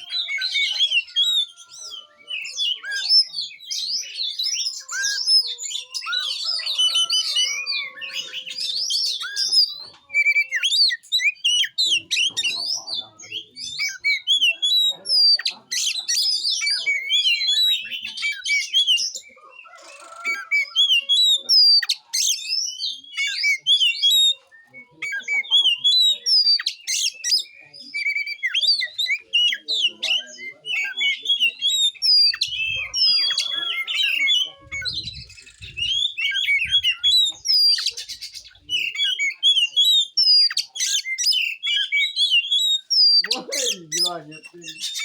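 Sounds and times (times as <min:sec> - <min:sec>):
songbird singing whistles: 0:00.0 - 0:45.0.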